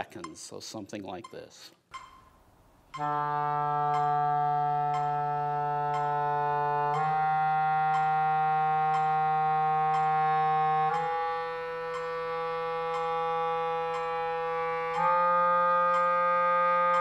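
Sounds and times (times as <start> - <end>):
metronome ticking: 0.0 - 17.0
clarinet long tones: 2.9 - 17.0.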